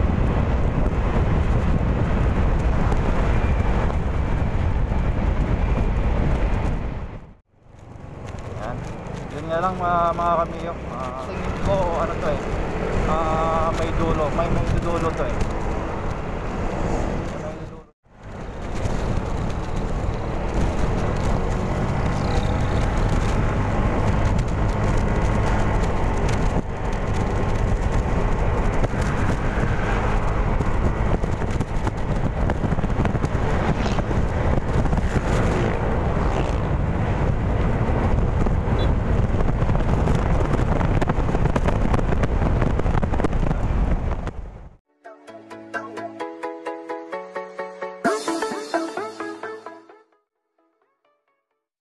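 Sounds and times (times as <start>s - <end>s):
wind noise on microphone: 0.0s - 44.8s.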